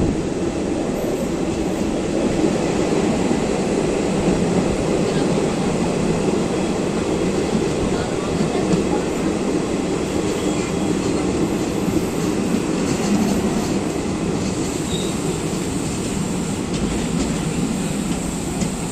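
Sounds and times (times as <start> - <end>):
train rumbling on rails: 0.0 - 18.9.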